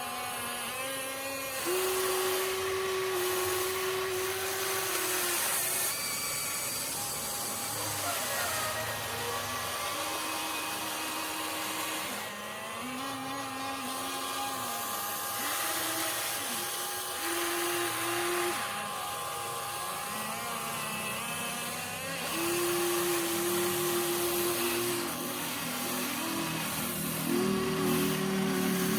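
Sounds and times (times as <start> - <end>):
electric motors whining: 0.0 - 28.9.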